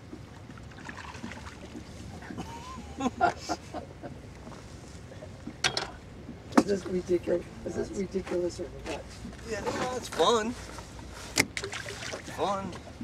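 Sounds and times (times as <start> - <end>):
water around a boat: 0.0 - 13.0
wind: 0.0 - 13.0.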